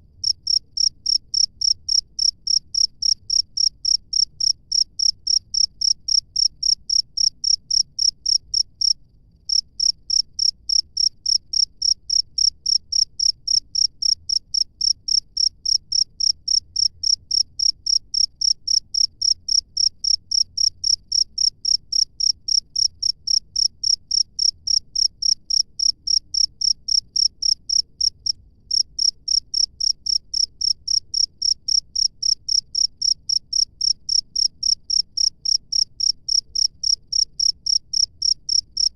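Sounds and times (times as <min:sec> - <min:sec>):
cricket chirping: 0:00.2 - 0:38.9.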